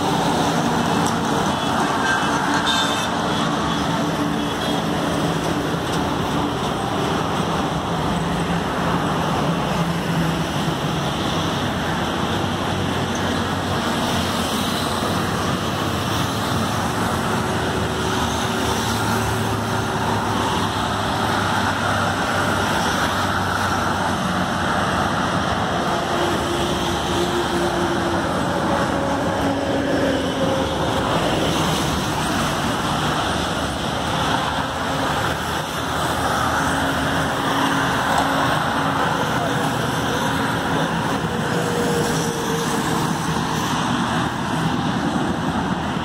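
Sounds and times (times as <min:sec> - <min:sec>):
highway traffic noise: 0:00.0 - 0:46.0.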